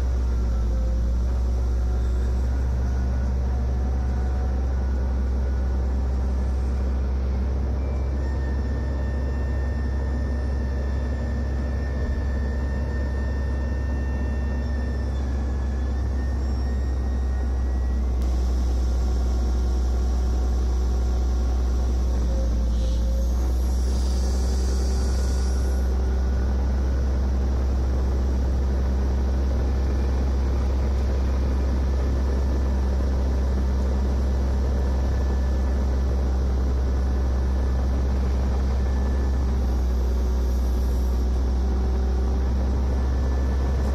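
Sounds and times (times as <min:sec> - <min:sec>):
excavator diesel engine rumbling: 0:00.0 - 0:43.9.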